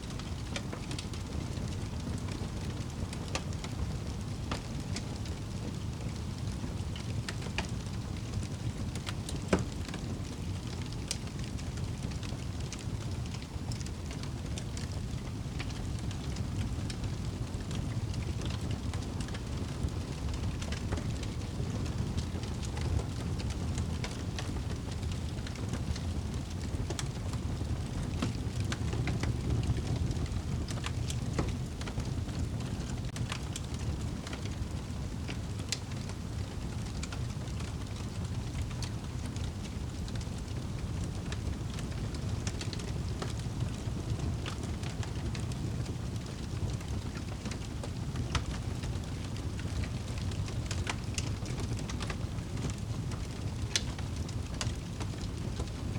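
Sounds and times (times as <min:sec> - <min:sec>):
low rumble of flames: 0:00.0 - 0:55.9
wood fire crackling and popping: 0:00.1 - 0:55.9.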